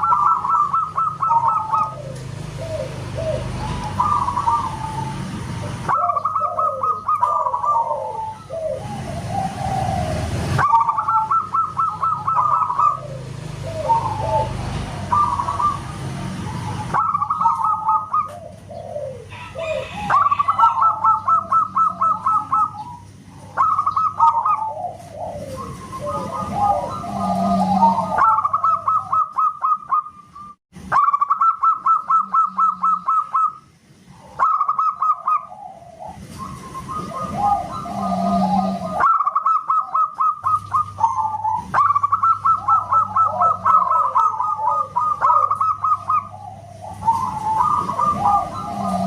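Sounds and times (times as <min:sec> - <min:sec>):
doves cooing: 0:00.0 - 0:49.0.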